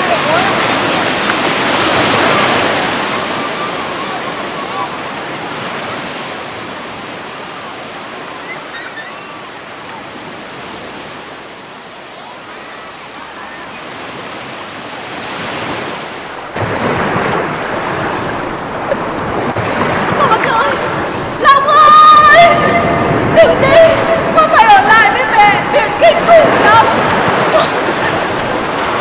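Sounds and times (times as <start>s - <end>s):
rough wash of water: 0.0s - 29.0s
sea surf washing: 0.0s - 29.0s.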